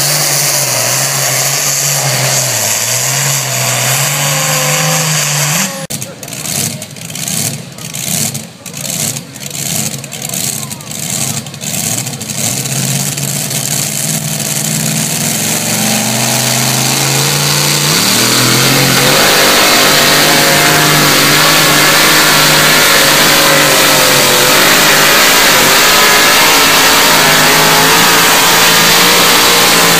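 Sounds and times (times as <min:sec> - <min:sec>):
truck engine revving under load: 0:00.0 - 0:29.9.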